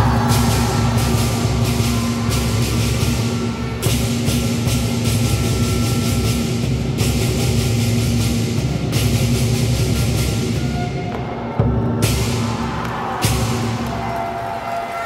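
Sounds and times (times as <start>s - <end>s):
big drum pounding: 0.0s - 14.1s
cymbals clashing: 0.0s - 14.6s.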